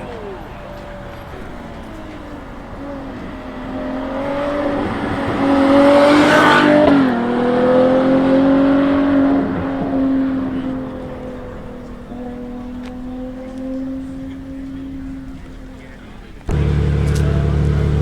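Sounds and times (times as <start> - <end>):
car engine accelerating past: 0.0 - 18.0.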